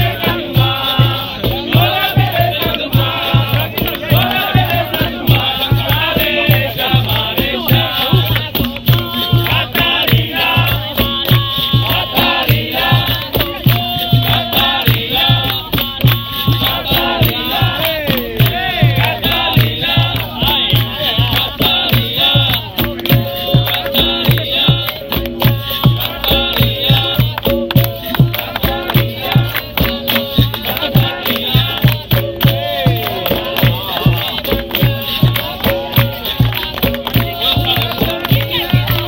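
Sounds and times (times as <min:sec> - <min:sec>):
group chanting and singing: 0:00.0 - 0:39.0
steady drum beat: 0:00.0 - 0:39.0.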